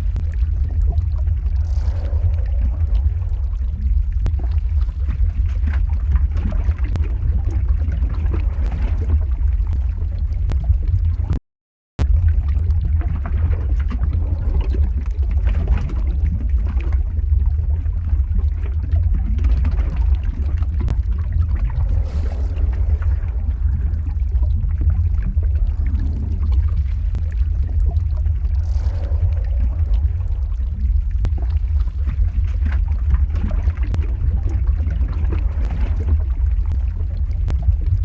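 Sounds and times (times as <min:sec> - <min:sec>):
lava rumbling and gurgling: 0:00.0 - 0:11.4, 0:12.0 - 0:38.0.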